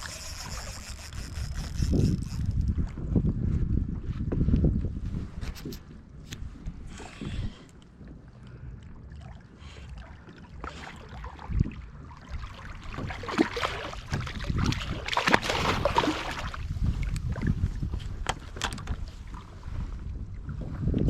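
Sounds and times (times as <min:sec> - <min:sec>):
wind buffeting microphone: 0:00.0 - 0:09.1, 0:10.2 - 0:21.0.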